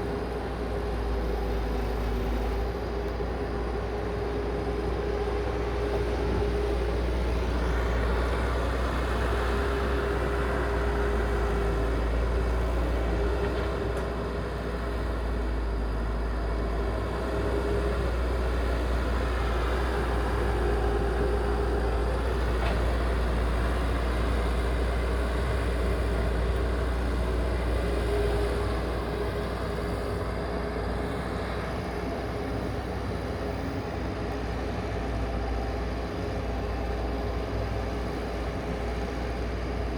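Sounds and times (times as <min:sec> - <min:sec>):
heavy machinery engine rumbling: 0:00.0 - 0:39.9.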